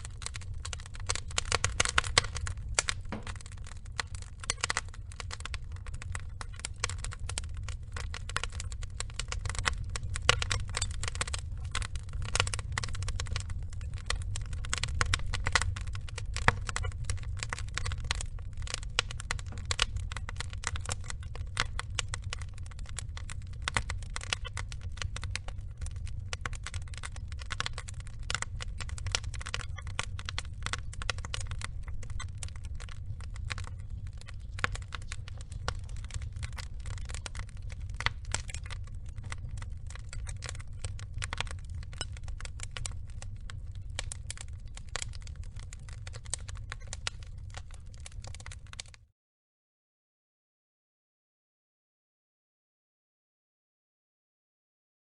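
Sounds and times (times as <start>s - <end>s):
logs crackling and popping: 0.0s - 49.1s
low rumble of flames: 0.0s - 49.1s.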